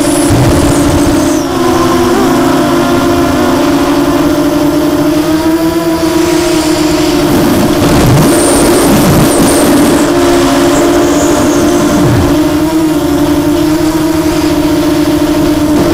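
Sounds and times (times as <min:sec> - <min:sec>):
quadcopter motors whirring: 0:00.0 - 0:15.9.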